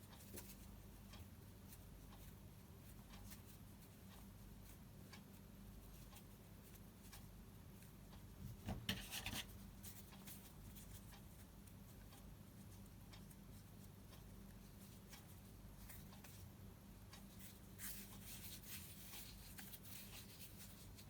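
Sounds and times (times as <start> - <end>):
faint ticks and rubbing: 0.0 - 21.0
low steady hum: 0.0 - 21.0.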